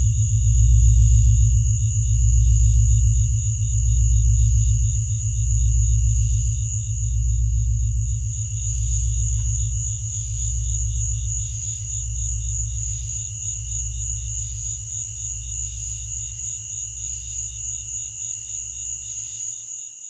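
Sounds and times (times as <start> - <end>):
high whine: 0.0 - 17.9
low drone: 0.0 - 18.0
pulsing insect-like trill: 0.0 - 19.9.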